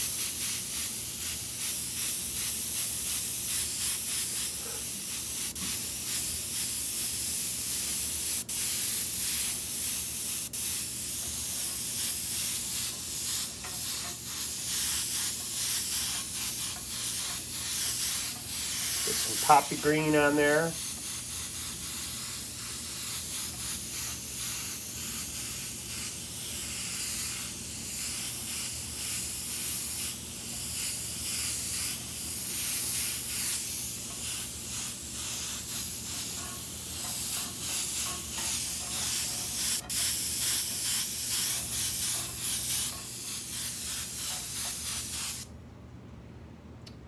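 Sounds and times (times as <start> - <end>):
airbrush spraying hiss: 0.0 - 45.5.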